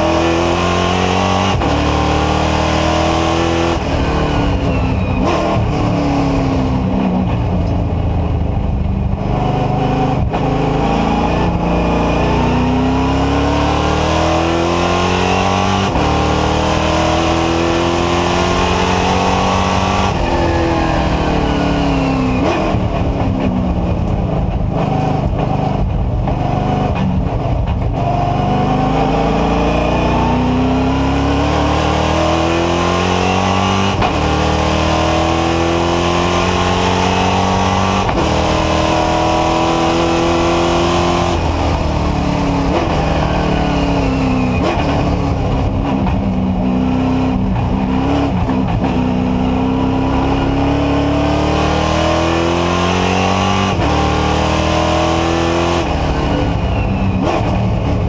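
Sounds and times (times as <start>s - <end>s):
race car engine with upshifts: 0.0s - 58.0s.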